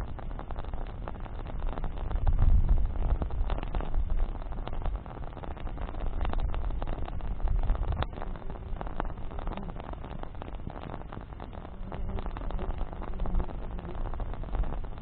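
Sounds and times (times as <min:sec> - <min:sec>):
wood bonfire crackling and popping: 0:00.0 - 0:15.0.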